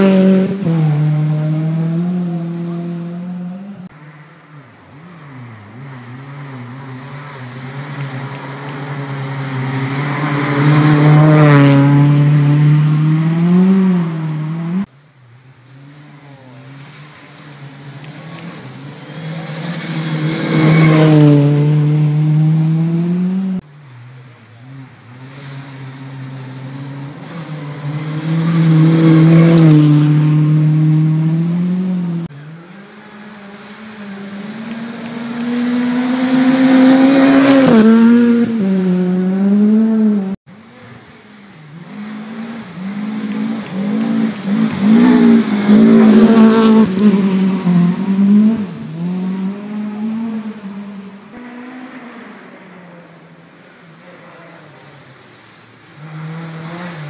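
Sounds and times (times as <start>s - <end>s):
rally cars passing: 0.0s - 57.0s.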